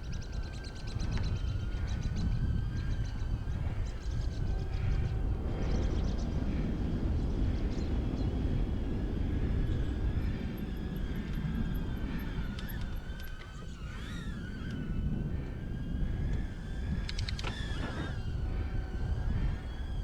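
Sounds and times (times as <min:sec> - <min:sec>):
faint steady whine: 0:00.0 - 0:20.0
wind buffeting microphone: 0:00.0 - 0:20.0.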